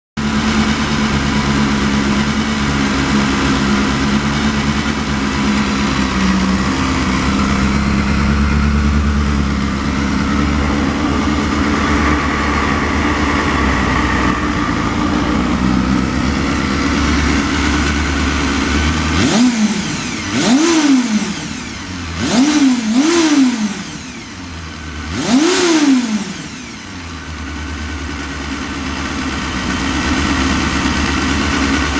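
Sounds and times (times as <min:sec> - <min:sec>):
motorcycle engine idling and revving: 0:00.2 - 0:31.9.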